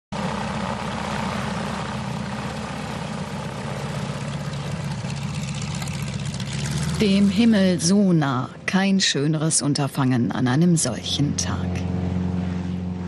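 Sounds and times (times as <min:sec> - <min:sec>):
propeller aircraft engine droning: 0:00.1 - 0:13.0.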